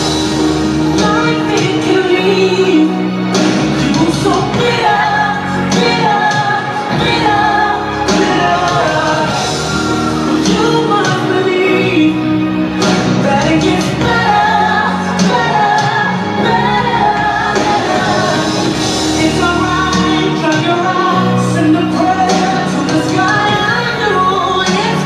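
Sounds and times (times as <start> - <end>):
song with singing in echoing hall: 0.0 - 25.0.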